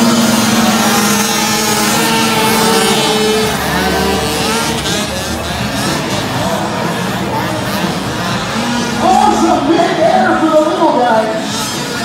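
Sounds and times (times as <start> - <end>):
quad bike engines racing: 0.0 - 12.0.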